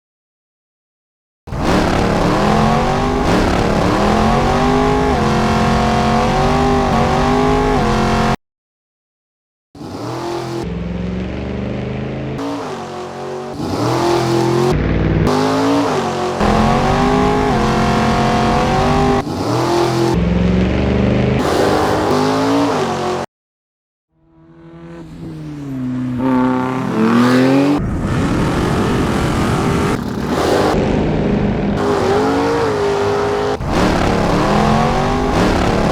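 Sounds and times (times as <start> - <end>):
two-stroke engine revving: 1.5 - 8.4, 9.8 - 23.3, 24.4 - 35.9.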